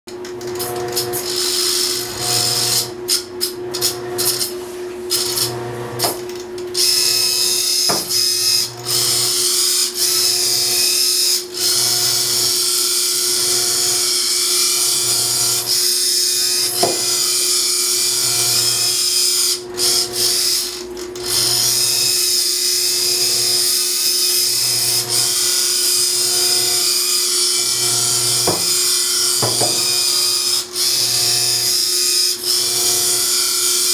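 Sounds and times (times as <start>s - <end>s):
small electric motor whine: 0.2s - 33.9s.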